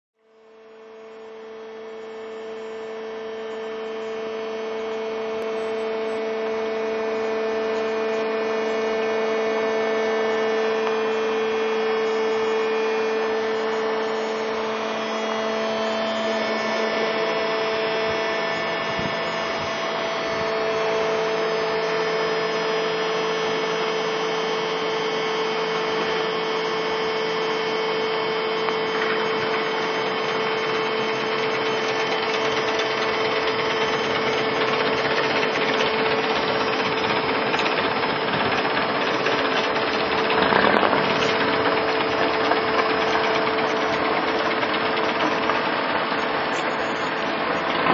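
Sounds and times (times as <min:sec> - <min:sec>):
bridge machinery humming: 0:00.8 - 0:47.9.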